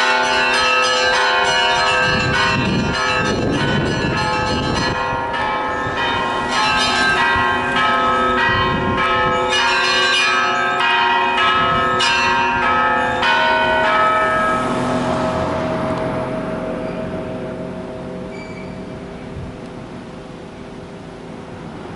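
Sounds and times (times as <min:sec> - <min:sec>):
church bells ringing: 0:00.0 - 0:21.4.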